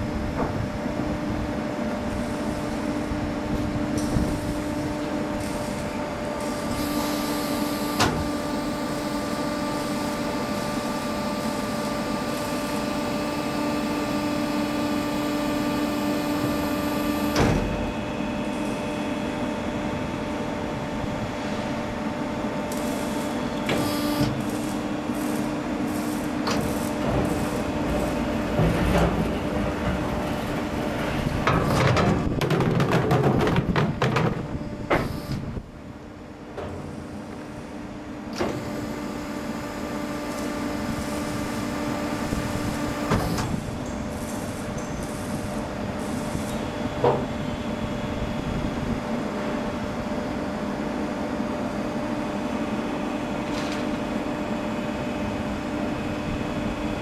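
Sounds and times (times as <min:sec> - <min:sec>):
drum crusher machine hum: 0:00.0 - 0:49.0.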